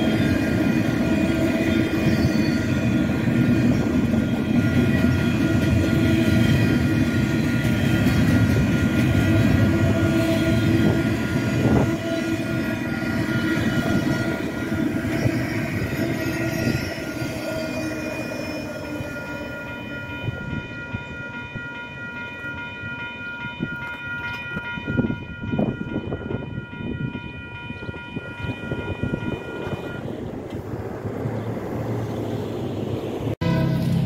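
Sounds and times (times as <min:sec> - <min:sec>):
crossing bell ringing: 0:00.0 - 0:30.3, 0:33.4 - 0:34.0
freight train rumbling past: 0:00.0 - 0:34.0
train cars clattering: 0:00.0 - 0:34.0.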